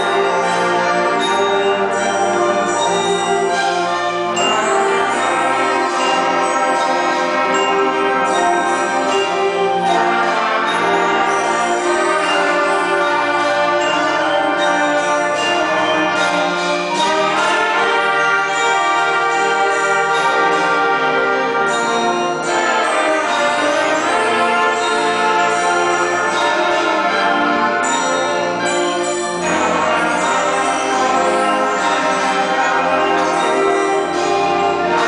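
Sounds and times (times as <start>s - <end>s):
trombones: 0.0s - 35.0s
trumpets: 0.0s - 35.0s
violins: 0.0s - 35.0s.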